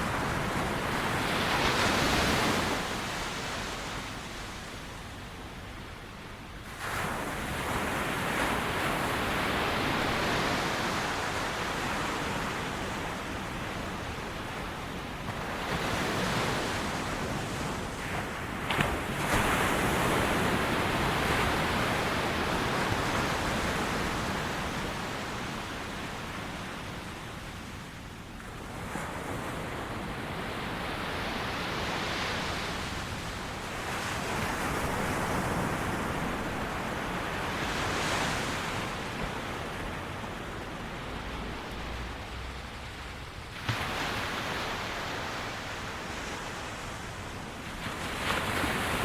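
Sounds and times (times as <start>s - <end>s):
ocean waves breaking on beach: 0.0s - 49.0s.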